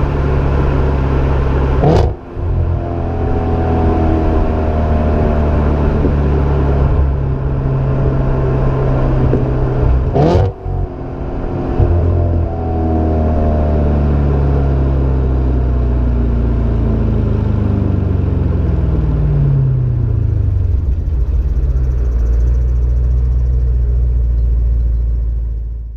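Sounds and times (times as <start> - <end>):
car exhaust rumble: 0.0 - 25.9.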